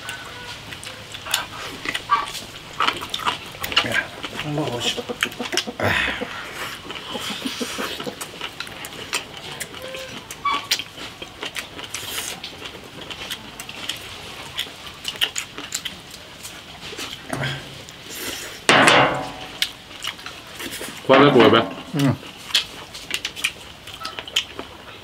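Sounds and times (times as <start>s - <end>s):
people chewing food: 0.0s - 25.0s.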